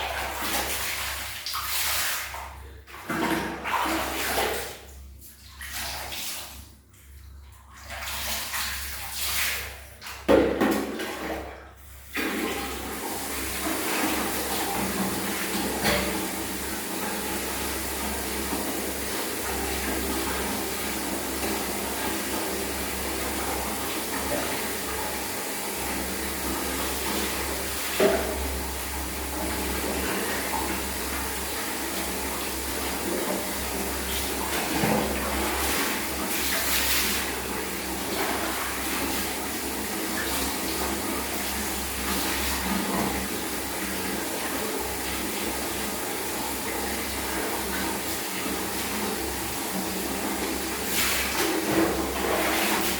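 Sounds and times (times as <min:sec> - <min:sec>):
water running: 0:00.0 - 0:52.9.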